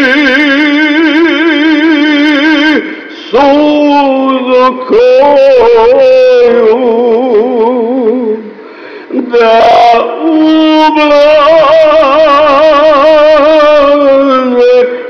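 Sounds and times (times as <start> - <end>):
person singing long notes with vibrato: 0.0 - 15.0.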